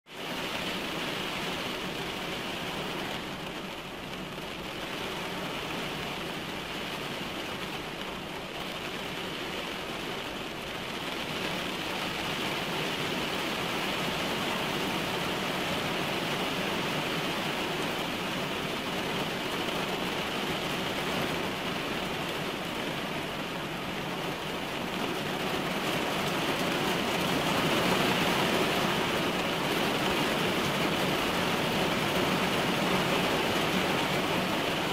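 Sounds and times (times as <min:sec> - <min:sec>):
heavy rain on a car roof: 0:00.1 - 0:34.9.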